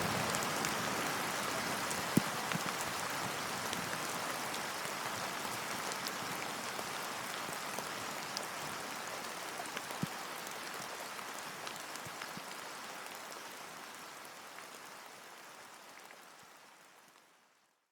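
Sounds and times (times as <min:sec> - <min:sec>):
steady rain: 0:00.0 - 0:17.6.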